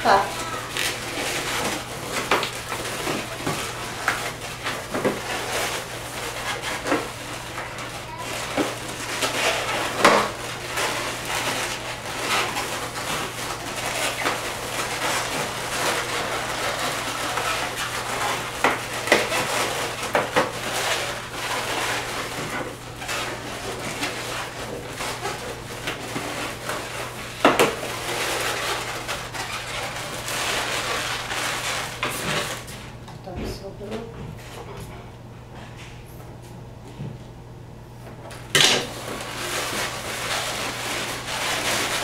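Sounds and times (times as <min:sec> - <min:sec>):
balloons squeaking and rustling: 0:00.0 - 0:32.8, 0:38.9 - 0:42.0.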